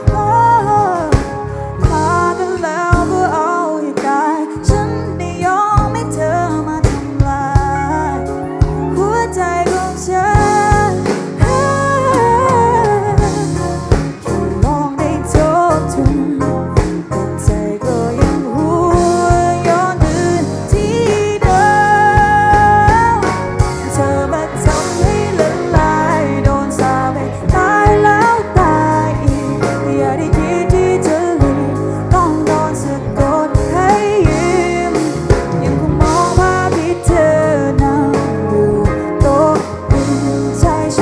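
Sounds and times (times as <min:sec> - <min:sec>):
bass line: 0:00.0 - 0:03.5, 0:04.6 - 0:41.0
song with singing voice: 0:00.0 - 0:41.0.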